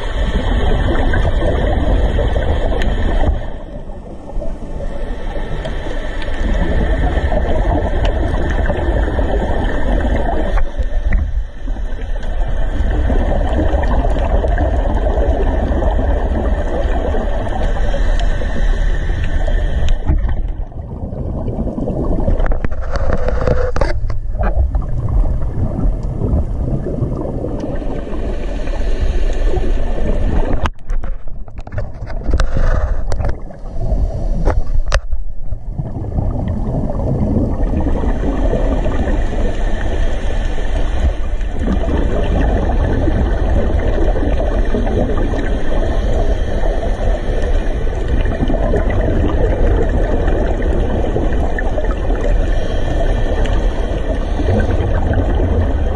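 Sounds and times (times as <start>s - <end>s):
underwater rumble with gurgling: 0.0s - 55.9s.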